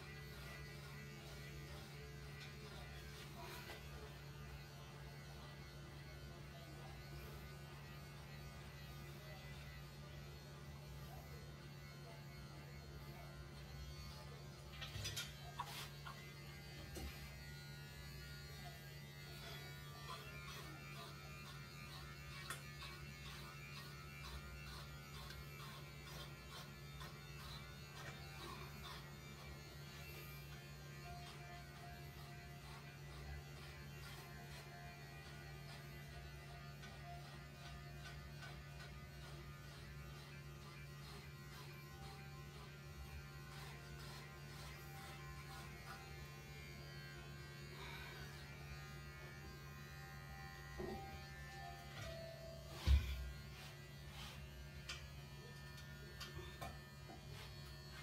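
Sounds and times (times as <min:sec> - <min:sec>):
electric hair clippers buzzing: 0:00.0 - 0:58.0.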